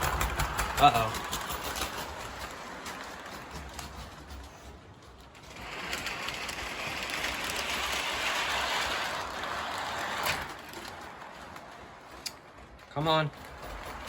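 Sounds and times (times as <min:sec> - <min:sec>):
model train motor grinding: 0:00.0 - 0:14.0.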